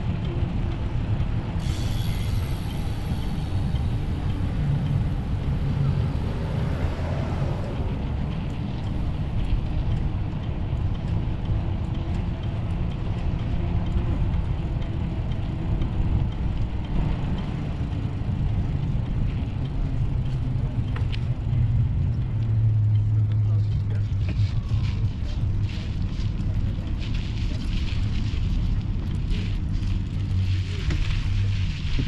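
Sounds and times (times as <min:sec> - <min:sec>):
wind and road noise: 0:00.0 - 0:32.0
wind buffeting microphone: 0:00.0 - 0:32.0.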